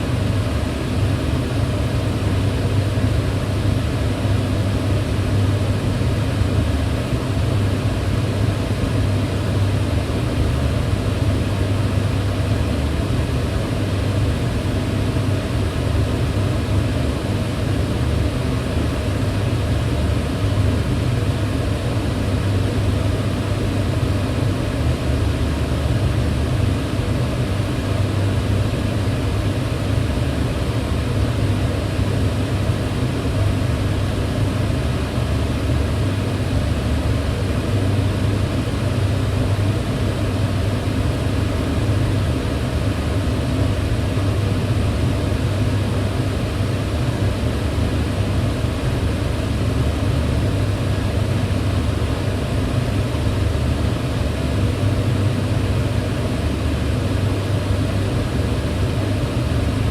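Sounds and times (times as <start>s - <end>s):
range hood fan running: 0.0s - 59.9s.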